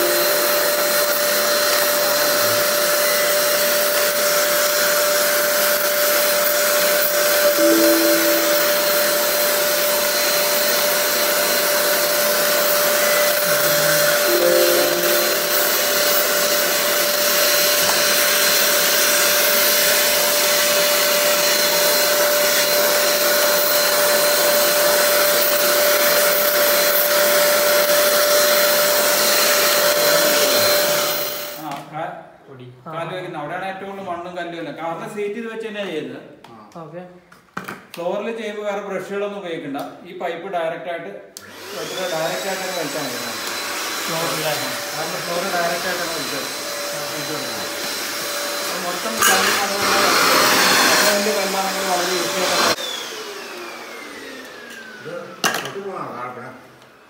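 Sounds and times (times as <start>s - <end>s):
handheld vacuum cleaner running: 0.0s - 31.8s, 41.4s - 57.0s.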